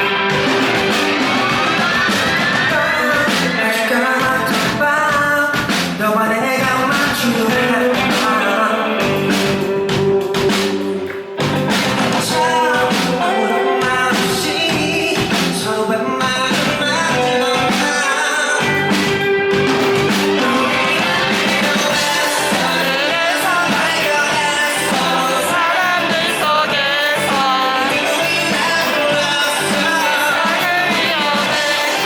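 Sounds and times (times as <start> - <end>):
person singing lead vocal: 0.0 - 32.0
rock band playing live: 0.0 - 32.0.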